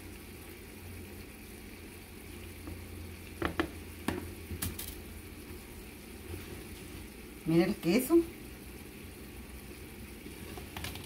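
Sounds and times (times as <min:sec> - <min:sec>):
pan sizzling: 0:00.0 - 0:11.0.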